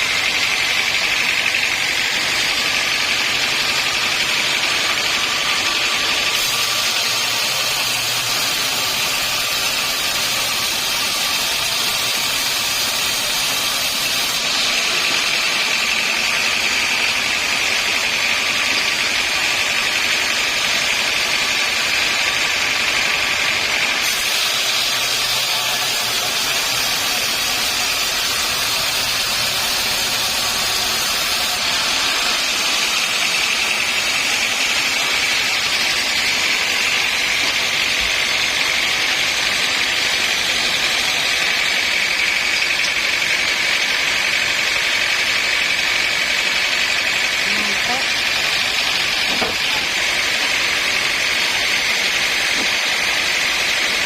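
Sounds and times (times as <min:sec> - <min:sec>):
harsh hiss: 0:00.0 - 0:54.0
sawmill machinery whining: 0:00.0 - 0:54.0.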